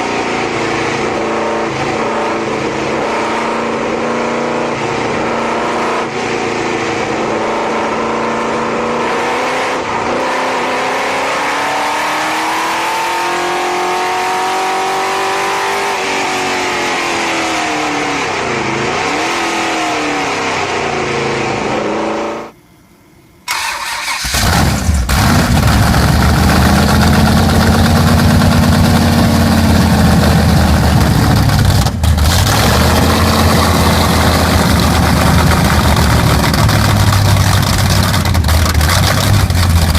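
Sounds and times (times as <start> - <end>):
deeper car engine revving: 0.0 - 22.5, 24.1 - 39.9
car engine revving: 0.0 - 22.6, 23.5 - 39.9.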